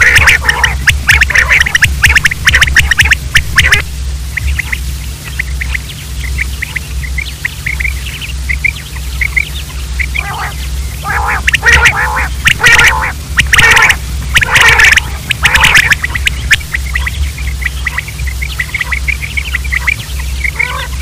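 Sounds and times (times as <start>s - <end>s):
quail chirping: 0.0s - 21.0s
quail harsh calls: 0.0s - 21.0s.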